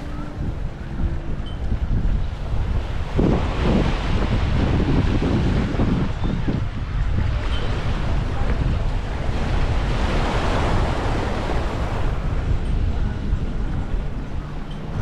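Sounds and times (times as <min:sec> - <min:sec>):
small waves washing onto beach: 0:00.0 - 0:15.0
wind buffeting the microphone: 0:00.0 - 0:15.0.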